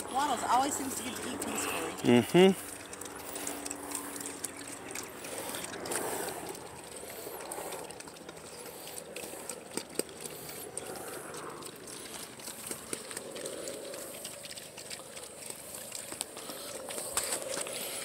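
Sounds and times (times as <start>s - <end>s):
pigs chewing wetly: 0.0s - 18.0s.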